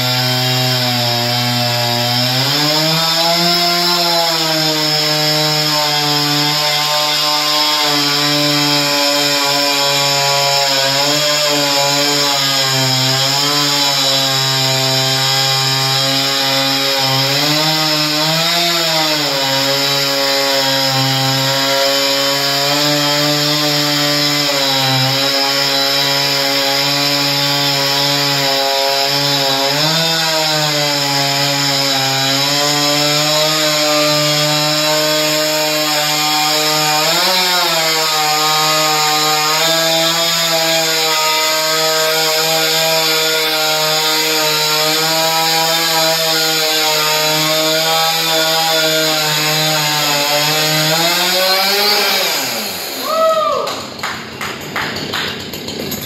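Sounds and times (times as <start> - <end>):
chainsaw cutting carpet: 0.0 - 53.1, 53.8 - 56.0.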